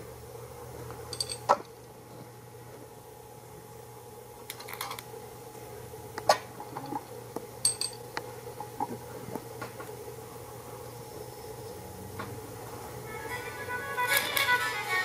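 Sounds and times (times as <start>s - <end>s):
plasma flame speaker humming: 1.7s - 15.0s.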